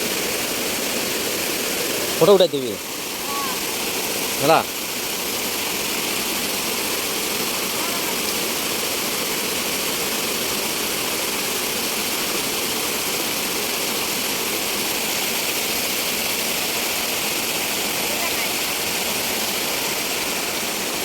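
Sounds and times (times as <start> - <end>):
falling water rushing: 0.0 - 21.0.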